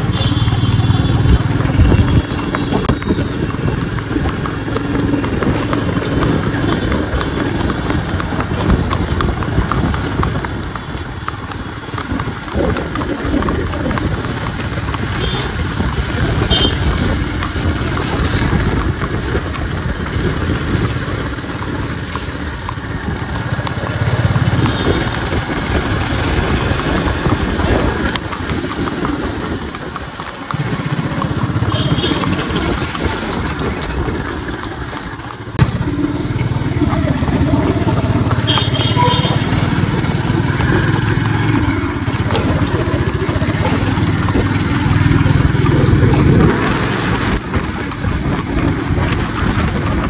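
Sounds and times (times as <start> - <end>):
horse hooves clopping on road: 0.0 - 50.0
motorcycle engine running: 0.0 - 50.0.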